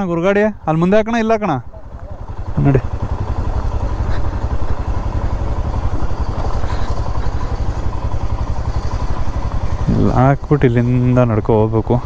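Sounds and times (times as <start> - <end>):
motorcycle engine running slowly: 0.0 - 12.0.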